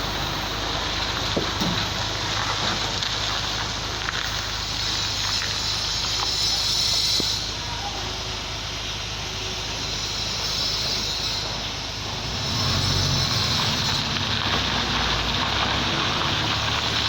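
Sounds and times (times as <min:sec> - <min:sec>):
heavy vehicle engine rumbling: 0:00.0 - 0:17.0
road noise: 0:00.0 - 0:17.0.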